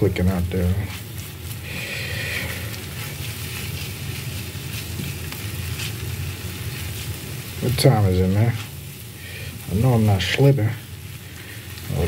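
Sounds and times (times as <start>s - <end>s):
noodles sizzling on grill: 0.0s - 12.0s
spatula stirring on grill: 0.0s - 12.0s.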